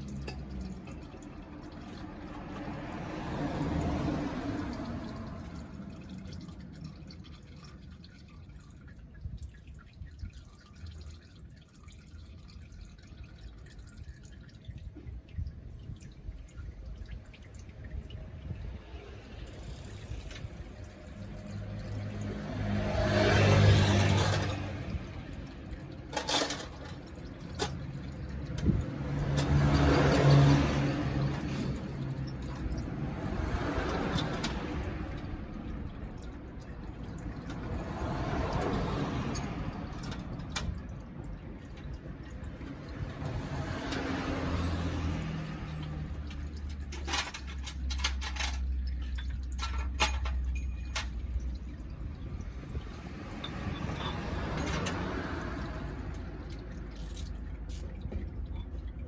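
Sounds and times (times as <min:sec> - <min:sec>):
oil dripping into pan: 0:00.0 - 0:59.0
vehicles passing by: 0:00.0 - 0:59.0.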